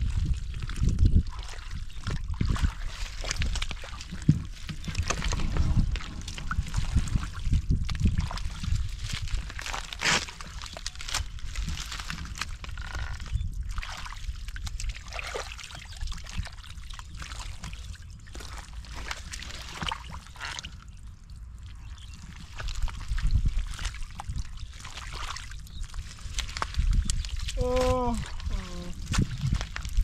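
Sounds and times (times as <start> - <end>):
hands splashing in muddy water: 0.0 - 21.0, 21.9 - 30.0.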